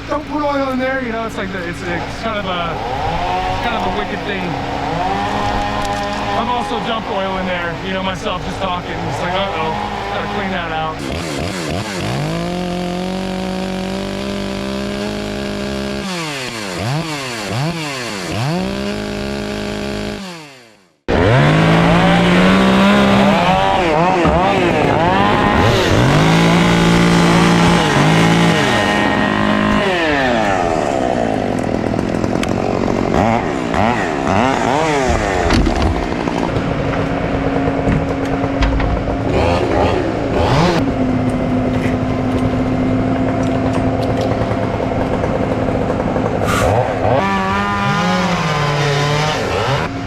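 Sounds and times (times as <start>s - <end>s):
chainsaw revving: 0.0s - 50.0s.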